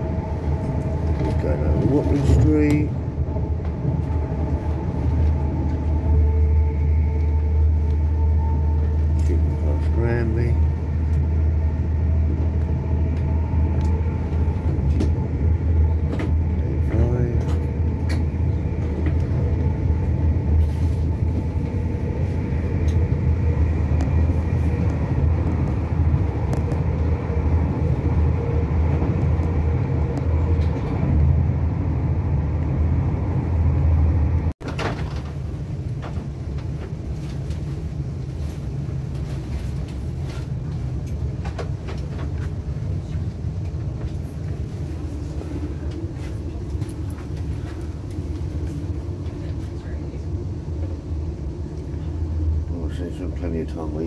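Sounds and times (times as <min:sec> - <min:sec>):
train rumbling: 0:00.0 - 0:54.0
train whine: 0:00.0 - 0:54.0.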